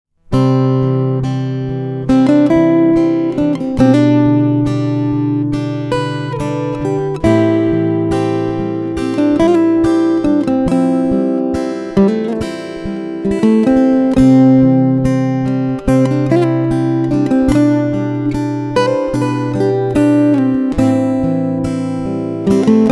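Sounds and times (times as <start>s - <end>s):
acoustic guitar music: 0.1s - 22.9s.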